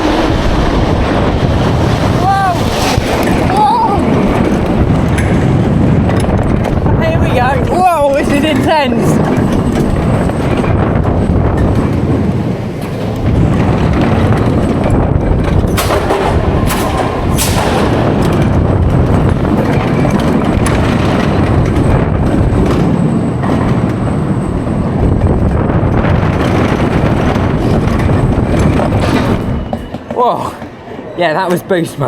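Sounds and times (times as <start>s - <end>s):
roller coaster rushing on track: 0.0s - 32.0s.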